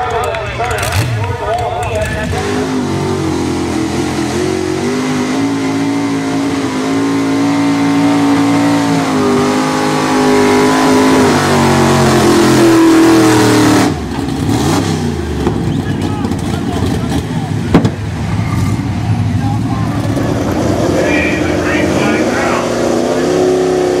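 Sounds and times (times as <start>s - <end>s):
truck engine revving hard: 0.6s - 24.0s.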